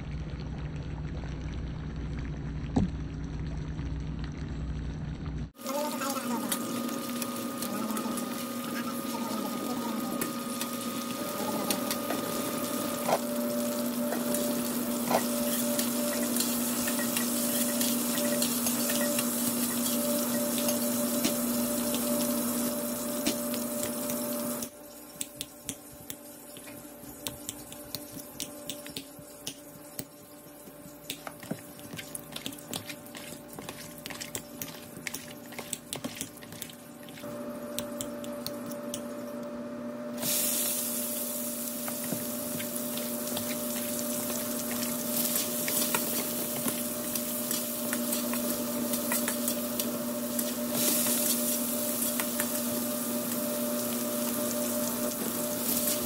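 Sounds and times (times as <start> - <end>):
potato slices sizzling in oil: 5.6 - 36.0, 40.2 - 56.0.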